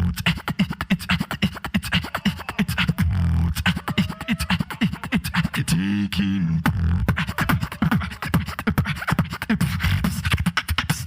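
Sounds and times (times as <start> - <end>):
beatboxing clicks and snare hits: 0.0 - 5.8, 6.6 - 11.0
deep vocal bass: 0.0 - 11.0.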